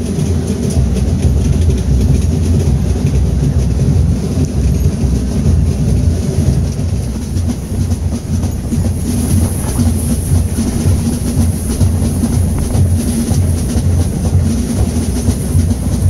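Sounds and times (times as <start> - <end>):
bass drum beating: 0.0 - 16.0
side drums rattling: 0.0 - 16.0.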